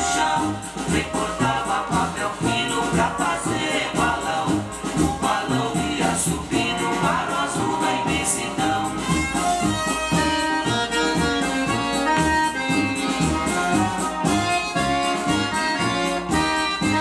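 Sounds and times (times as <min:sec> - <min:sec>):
accordion band music from vinyl: 0:00.0 - 0:17.0.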